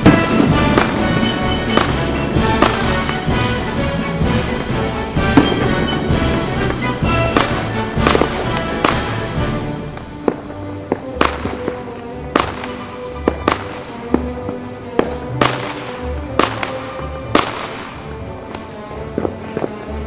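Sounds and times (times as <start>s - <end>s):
fireworks bangs and cracks: 0.0s - 19.8s.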